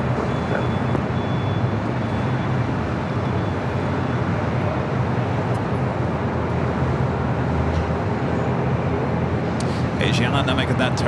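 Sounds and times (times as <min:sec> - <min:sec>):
jet engines roaring: 0:00.0 - 0:11.0
road traffic: 0:00.0 - 0:11.0.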